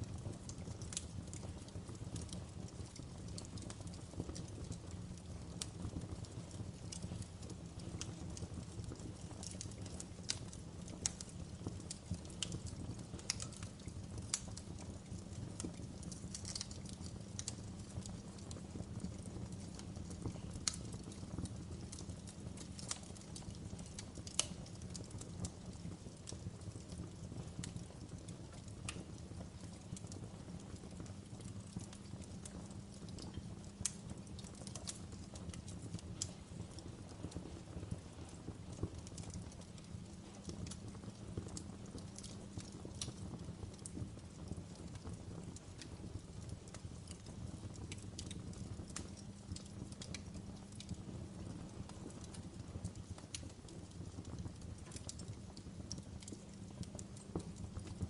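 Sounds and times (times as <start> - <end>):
wood fire burning: 0.0 - 58.0.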